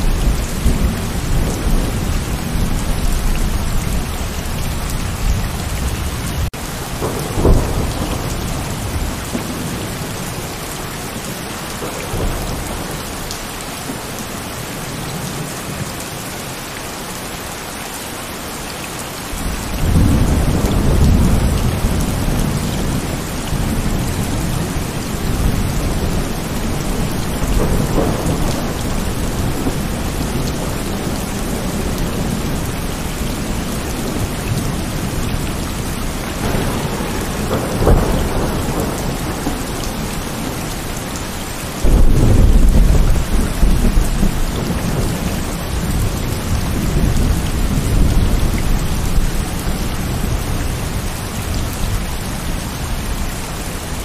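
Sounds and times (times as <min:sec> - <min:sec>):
rolling thunder: 0:00.0 - 0:10.5, 0:11.2 - 0:13.2, 0:19.4 - 0:53.2
heavy rain falling: 0:00.0 - 0:54.0.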